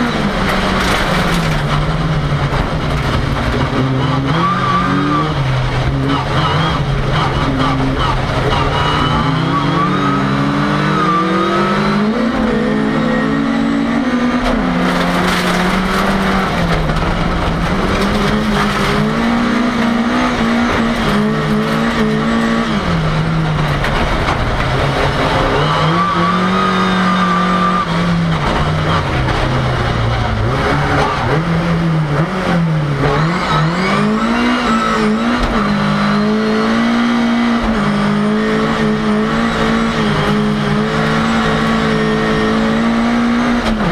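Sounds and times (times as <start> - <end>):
racing car engine revving: 0.0 - 43.9.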